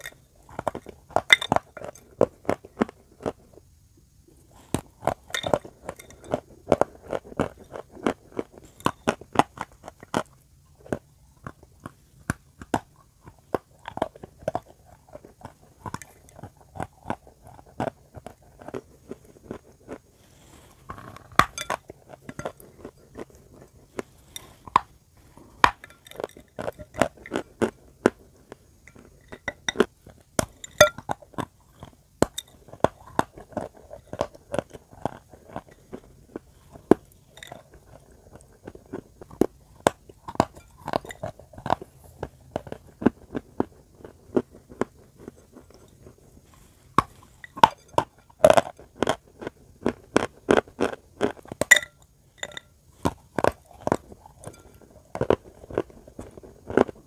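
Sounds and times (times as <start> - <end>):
chewing chalk crunches: 4.6 - 57.0.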